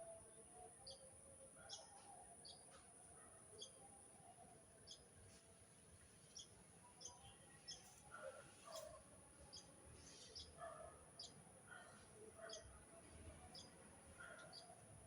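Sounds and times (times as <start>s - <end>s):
faint bird chirping: 0.0s - 5.5s, 6.1s - 15.0s.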